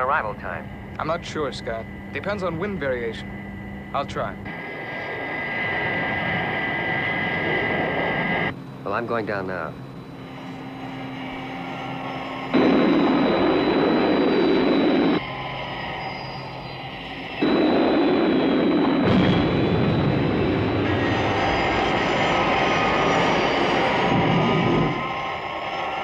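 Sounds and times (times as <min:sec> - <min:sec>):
jet engine roar with high whine: 0:00.0 - 0:26.0.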